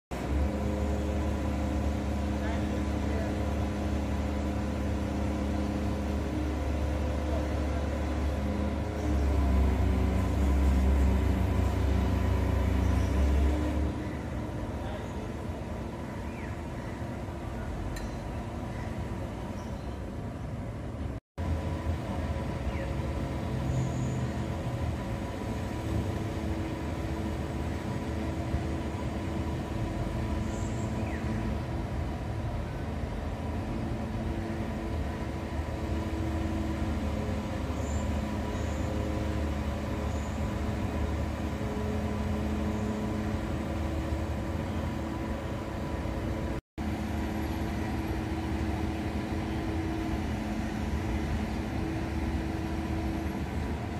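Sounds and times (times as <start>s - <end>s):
diesel engine humming: 0.1s - 53.9s.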